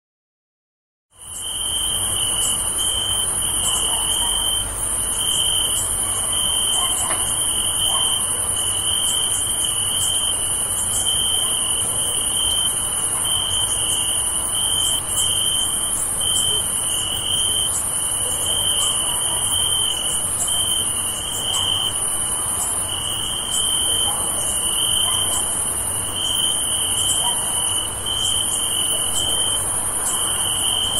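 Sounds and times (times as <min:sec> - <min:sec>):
crickets chirping: 0:01.1 - 0:30.9.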